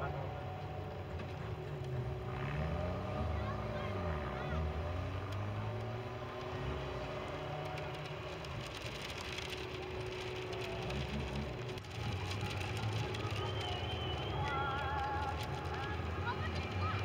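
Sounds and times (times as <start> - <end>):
race car engines rumbling: 0.0 - 17.0.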